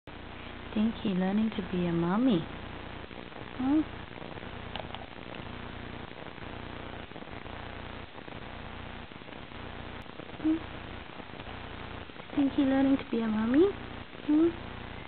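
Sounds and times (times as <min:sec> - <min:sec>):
steady low hum and hiss: 0:00.1 - 0:15.0.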